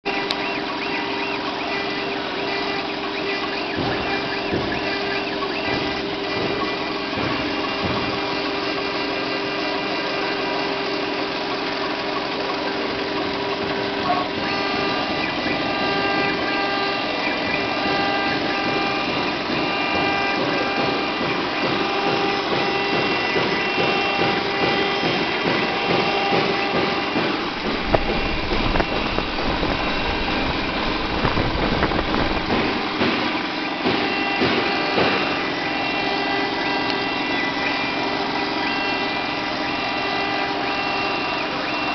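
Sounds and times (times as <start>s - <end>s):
spindle motor whining: 0.0s - 41.9s
stepper motor tones: 0.0s - 41.9s.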